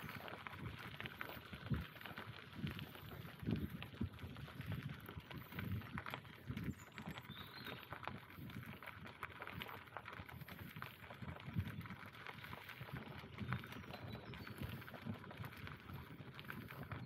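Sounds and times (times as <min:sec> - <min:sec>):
bicycle tyres on rough path: 0:00.0 - 0:17.0.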